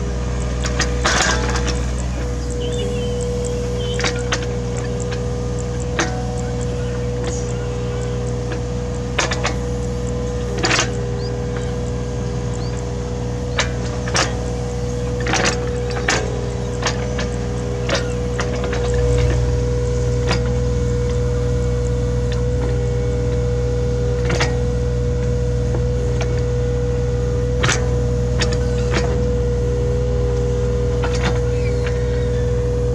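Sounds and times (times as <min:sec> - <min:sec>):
knocks and clanks of digging: 0:00.0 - 0:32.2
excavator diesel engine running: 0:00.0 - 0:32.9.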